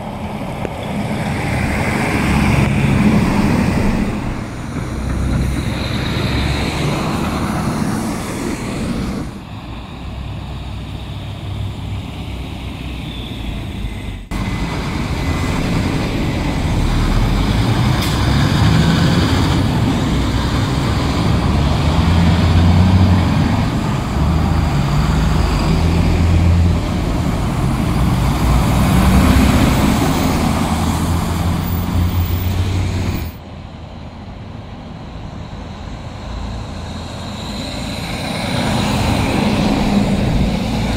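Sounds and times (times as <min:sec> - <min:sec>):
trucks driving past: 0:00.0 - 0:40.9.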